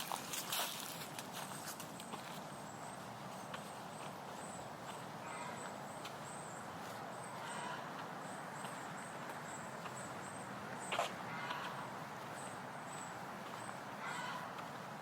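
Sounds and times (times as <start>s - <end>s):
footsteps on a trail: 0.0s - 15.0s
faint bird chirps: 2.0s - 14.8s.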